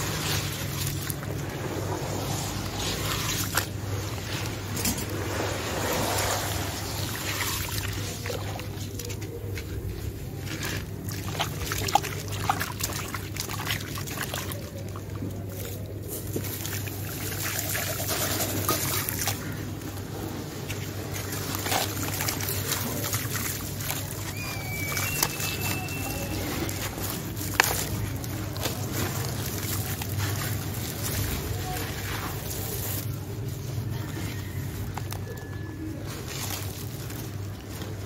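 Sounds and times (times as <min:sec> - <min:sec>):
water sloshing and trickling: 0:00.0 - 0:38.0.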